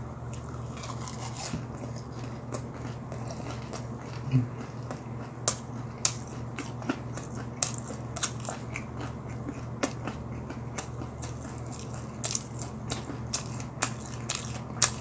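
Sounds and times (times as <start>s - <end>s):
man chewing crunchy food: 0.2s - 15.0s.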